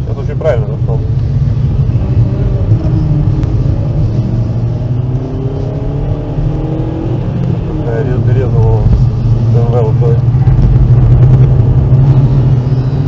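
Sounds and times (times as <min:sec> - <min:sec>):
car engine accelerating: 0:00.0 - 0:13.0
road rumble: 0:00.0 - 0:13.0.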